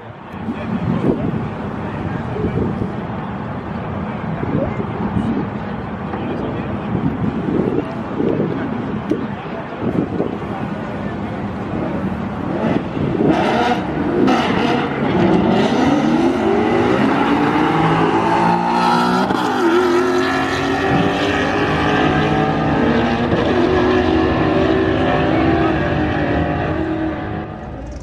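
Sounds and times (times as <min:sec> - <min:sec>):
racing car engines accelerating: 0:00.3 - 0:28.0.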